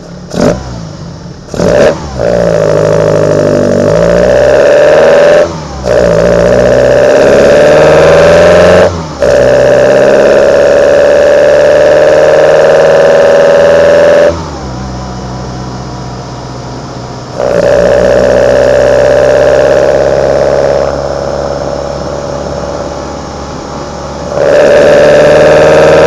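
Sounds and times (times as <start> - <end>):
engine intake roar rising in pitch: 0.0 - 26.0.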